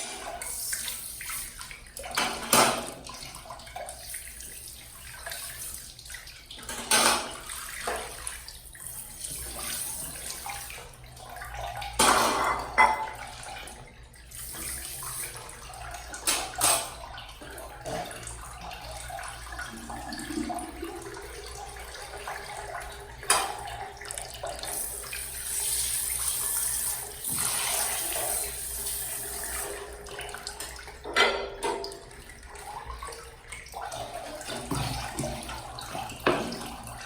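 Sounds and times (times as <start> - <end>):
water running into sink: 0.0 - 37.0.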